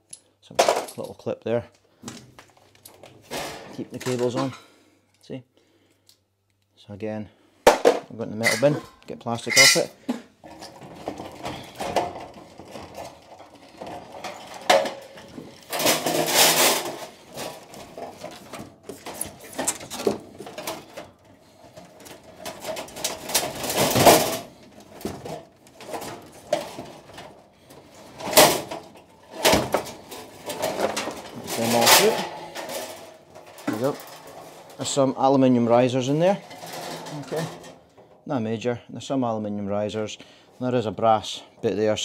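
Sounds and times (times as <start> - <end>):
plastic and metal parts clattering: 0.1 - 1.3, 2.0 - 4.8, 7.6 - 38.2.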